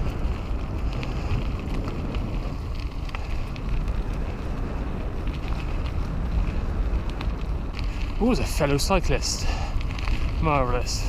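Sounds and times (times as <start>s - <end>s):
bike clicks and rattles: 0.0s - 11.0s
tyres rolling over trail: 0.0s - 11.0s
wind buffeting camera: 0.0s - 11.0s.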